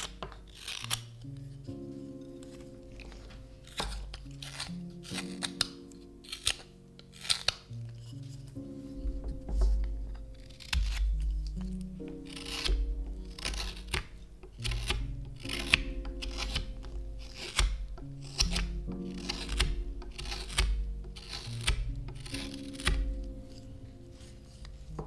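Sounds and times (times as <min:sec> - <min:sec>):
knife slicing wood: 0:00.0 - 0:25.0
soft background music: 0:00.0 - 0:25.0.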